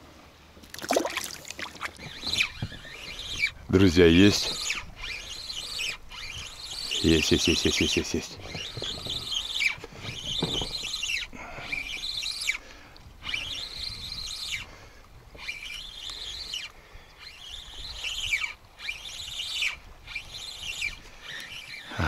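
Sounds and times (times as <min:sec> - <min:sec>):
fishing reel whirring: 0:00.9 - 0:22.0.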